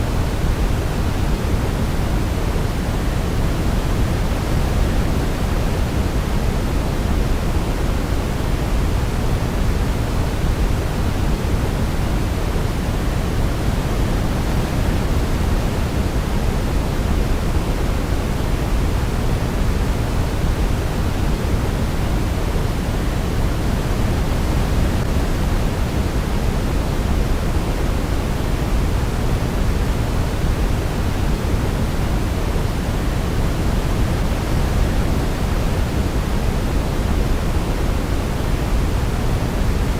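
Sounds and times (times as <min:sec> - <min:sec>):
deep rushing white noise: 0:00.0 - 0:39.9.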